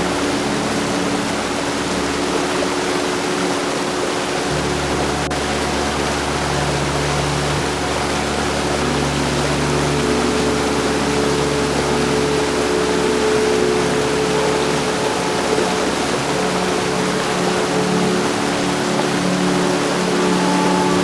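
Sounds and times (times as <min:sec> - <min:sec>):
heavy rain hiss: 0:00.0 - 0:21.0.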